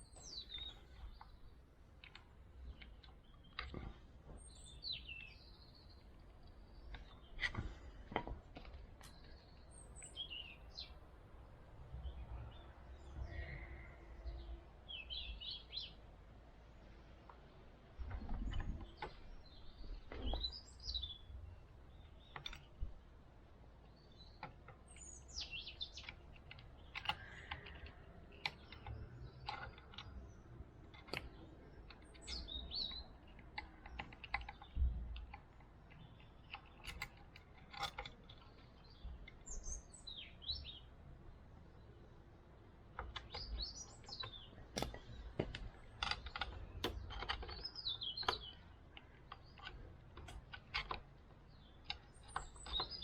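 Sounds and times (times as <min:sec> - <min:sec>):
small birds chirping: 0:00.0 - 0:53.0
light clicks and knocks: 0:00.1 - 0:11.2, 0:17.0 - 0:41.0, 0:42.4 - 0:53.0.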